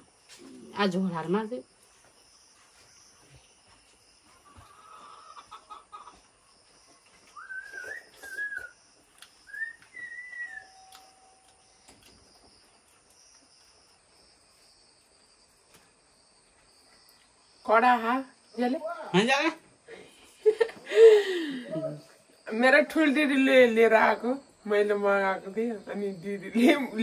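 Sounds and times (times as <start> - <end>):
high insect hum: 0.0 - 27.0.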